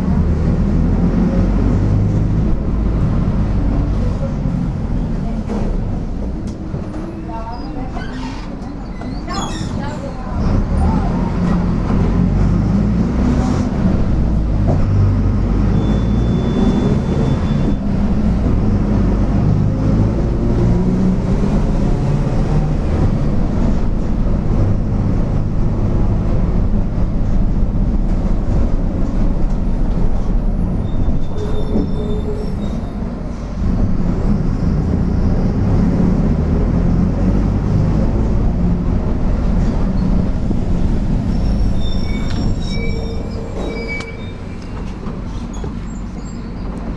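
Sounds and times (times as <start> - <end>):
bus diesel engine pulling: 0.0 - 46.9.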